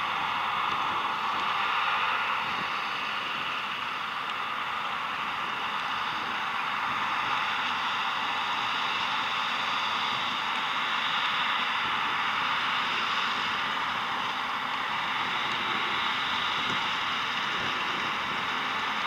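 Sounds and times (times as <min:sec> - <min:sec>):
tractor and baler machinery noise: 0:00.0 - 0:19.0.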